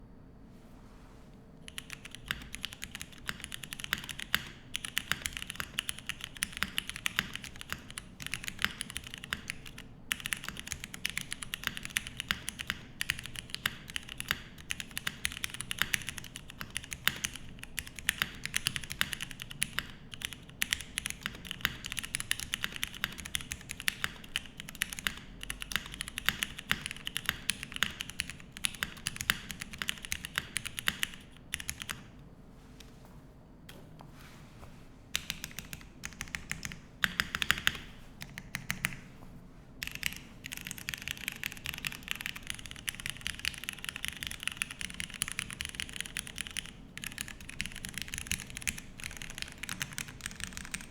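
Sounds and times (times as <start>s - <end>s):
mechanical keyboard typing: 1.7s - 32.1s, 35.1s - 39.0s, 39.8s - 50.9s.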